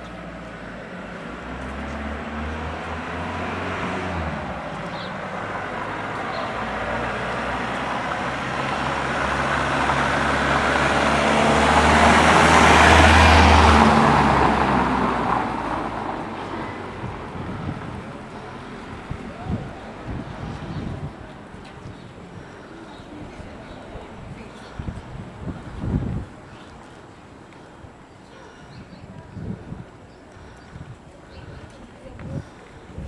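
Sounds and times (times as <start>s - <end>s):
car passing by: 0.0s - 27.0s.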